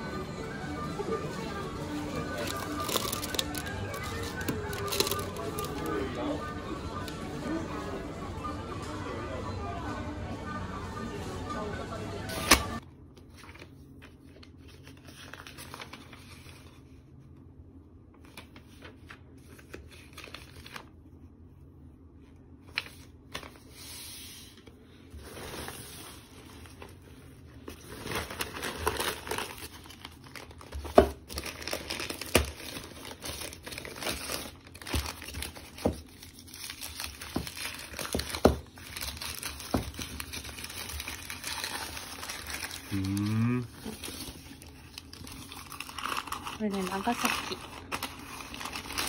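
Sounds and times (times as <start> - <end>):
paper and plastic rustling: 1.0 - 6.4, 12.3 - 17.4, 18.1 - 21.2, 22.2 - 49.0.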